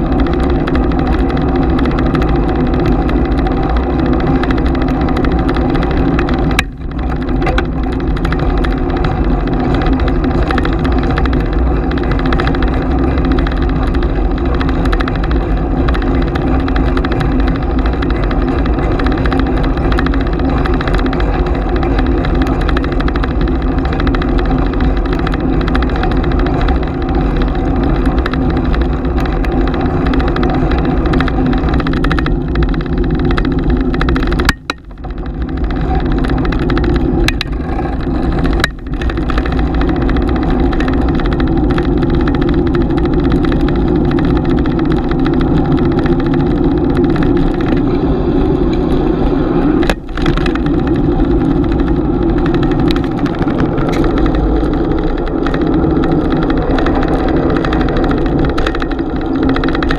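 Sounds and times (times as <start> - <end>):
bicycle tyres on road: 0.0 - 59.9.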